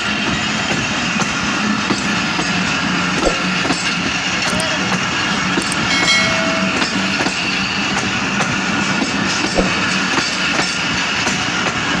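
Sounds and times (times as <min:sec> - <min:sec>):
train rumble: 0:00.0 - 0:12.0
train wheels clattering on rails: 0:00.0 - 0:12.0.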